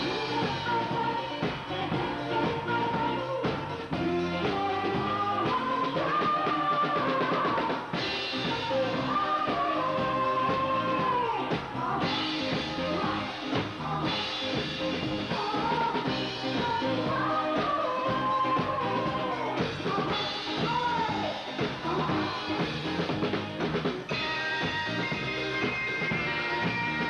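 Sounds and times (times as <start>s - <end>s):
person singing: 0.0s - 22.7s
instrumental accompaniment: 0.0s - 27.0s.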